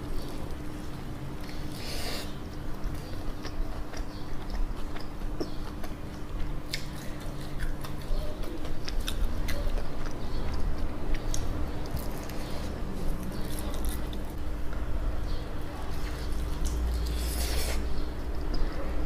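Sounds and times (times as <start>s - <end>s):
crisp chewing: 0.0s - 14.9s, 15.6s - 19.0s.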